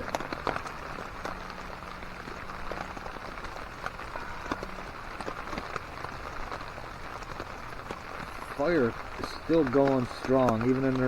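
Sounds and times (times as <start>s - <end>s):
rain drops ticking on a tarp: 0.0s - 11.0s.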